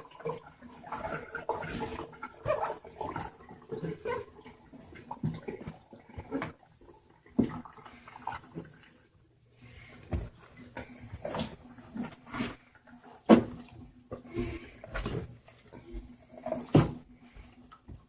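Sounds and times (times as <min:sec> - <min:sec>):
water sloshing in wash tub: 0:00.0 - 0:18.0.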